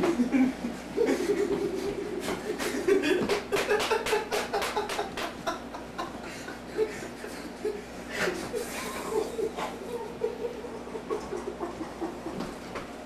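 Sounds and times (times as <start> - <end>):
microwave oven hum: 0.0 - 13.0
people chuckling: 0.0 - 13.0.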